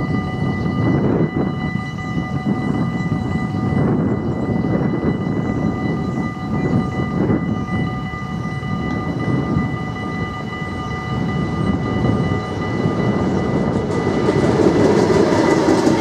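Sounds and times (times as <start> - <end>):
crossing warning bell: 0.0 - 16.0
freight train rumbling on rails: 0.0 - 16.0.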